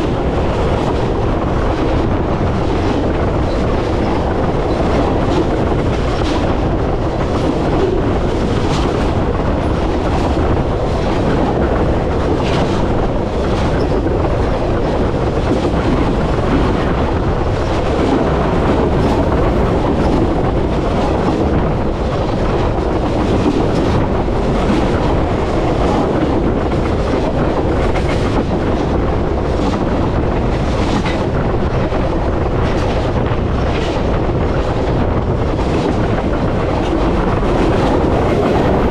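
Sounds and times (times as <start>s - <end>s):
steel wheels rumbling on rails: 0.0s - 38.9s.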